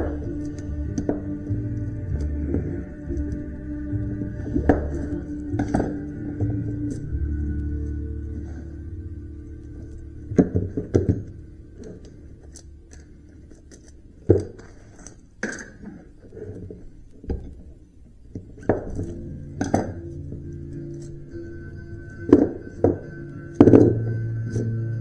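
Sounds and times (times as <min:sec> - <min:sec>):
background music: 0:00.0 - 0:15.0, 0:17.8 - 0:25.0.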